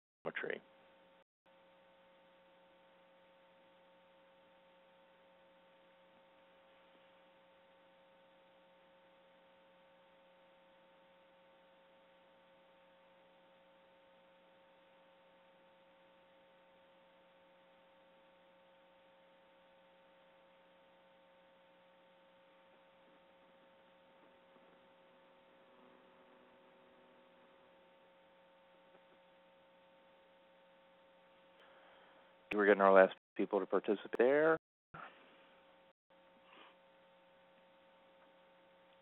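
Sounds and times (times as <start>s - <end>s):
thin steady hum: 0.3s - 39.0s.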